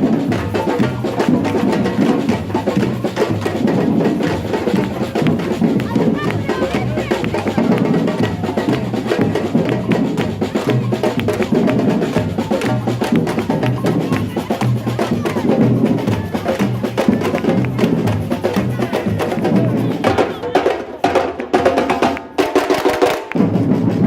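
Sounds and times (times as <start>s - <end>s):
percussion group drumming: 0.0s - 24.0s.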